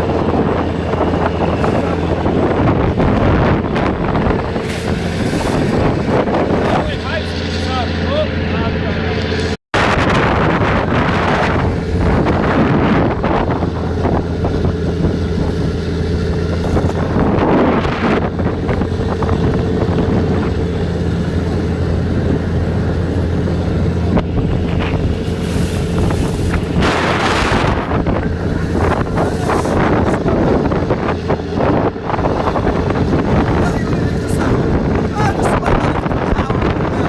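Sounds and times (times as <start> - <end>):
boat engine running: 0.0 - 37.0
wind buffeting microphone: 0.0 - 37.0.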